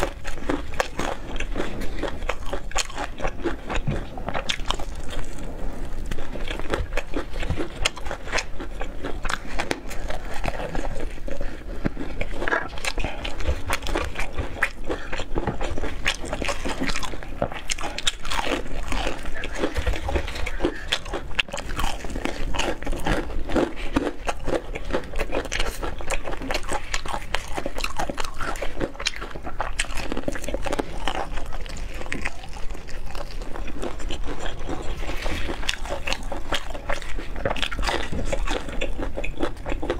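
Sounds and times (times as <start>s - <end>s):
fried chicken crunching: 0.0s - 39.9s.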